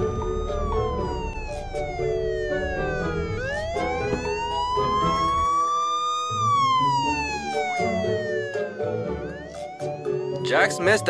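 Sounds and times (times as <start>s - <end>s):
background music: 0.0s - 11.0s
wailing siren: 0.0s - 11.0s.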